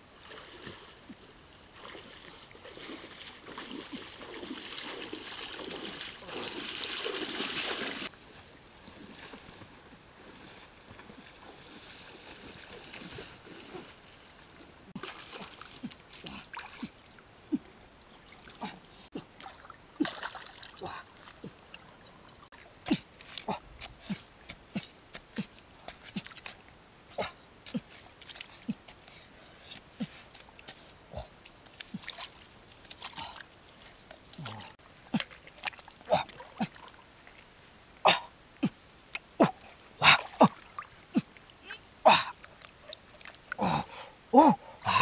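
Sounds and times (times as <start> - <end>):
stream water rushing: 0.0 - 14.0, 14.9 - 45.0
mud squelching: 0.2 - 17.7, 18.3 - 45.0.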